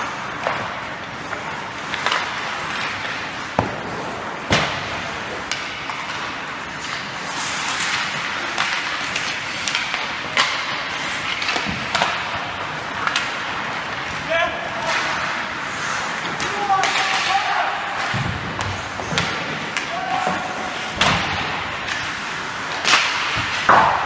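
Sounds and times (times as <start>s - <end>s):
skates scraping on ice: 0.0s - 24.0s
sticks and puck clacking: 0.0s - 24.0s.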